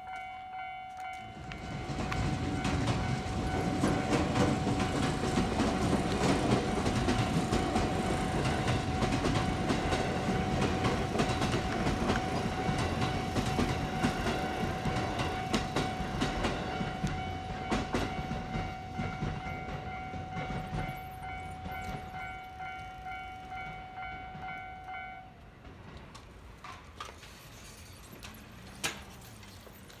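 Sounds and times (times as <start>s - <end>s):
train wheels clattering on rails: 0.0s - 25.0s, 25.6s - 30.0s
level crossing warning bell: 0.0s - 25.4s.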